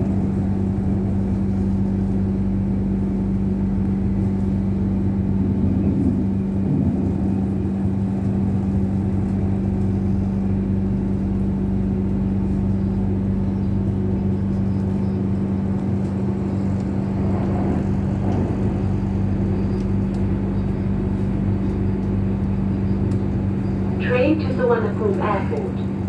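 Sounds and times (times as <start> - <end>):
constant humming tone: 0.0 - 26.0
train cabin drone: 0.0 - 26.0.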